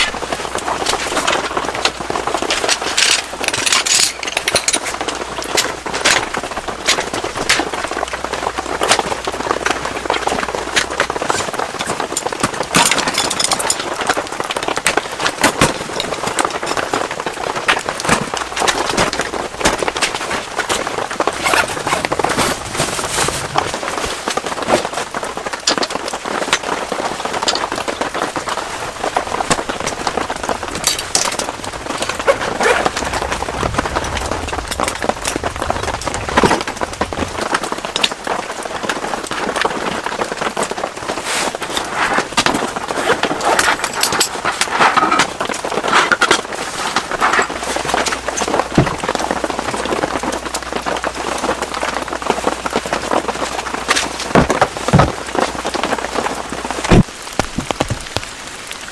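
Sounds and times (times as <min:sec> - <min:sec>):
rain on a tent: 0:00.0 - 0:58.9.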